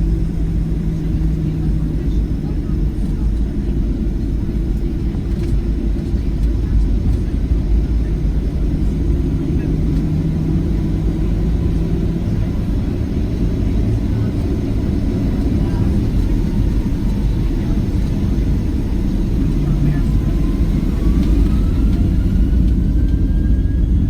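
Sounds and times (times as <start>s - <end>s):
jet engine cabin rumble: 0.0s - 24.0s.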